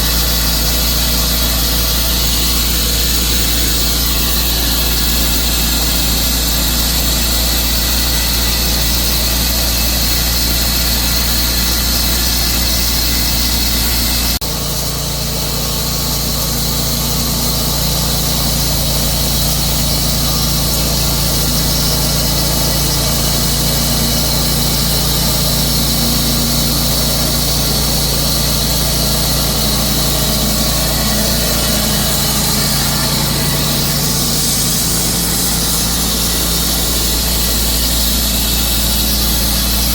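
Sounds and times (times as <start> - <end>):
sawmill cutting log: 0.0 - 39.9.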